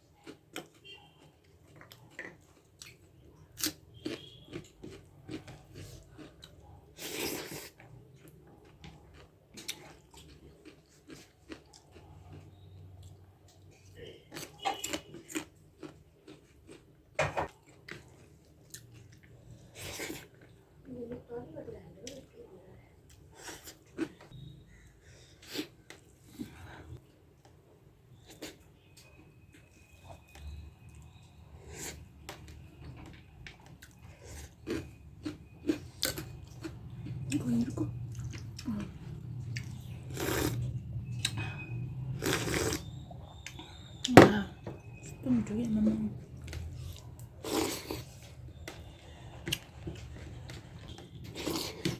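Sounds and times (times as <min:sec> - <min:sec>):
person chewing wetly: 0:00.0 - 0:20.8, 0:28.2 - 0:44.1, 0:46.2 - 0:51.9.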